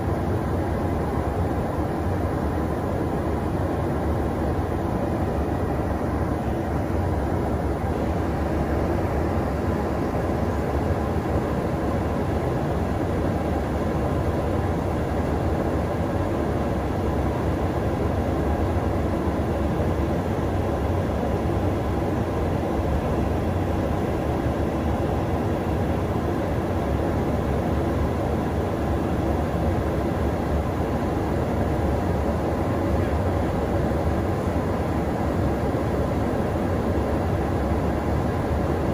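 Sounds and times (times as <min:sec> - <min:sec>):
aircraft cabin engine roar: 0:00.0 - 0:38.9.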